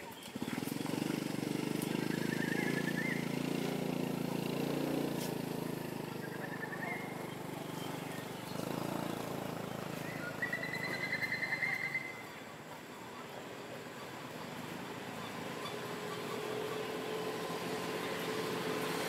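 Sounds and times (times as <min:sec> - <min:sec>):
small engine humming: 0:00.0 - 0:19.0.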